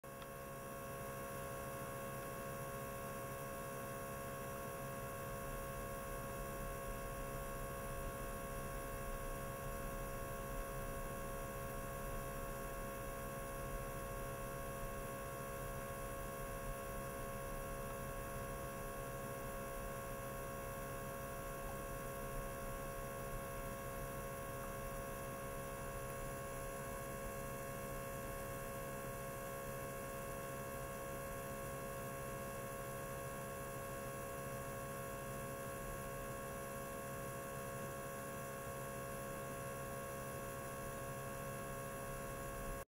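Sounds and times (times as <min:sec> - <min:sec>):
ultrasonic cleaner electrical hum: 0:00.0 - 0:42.8.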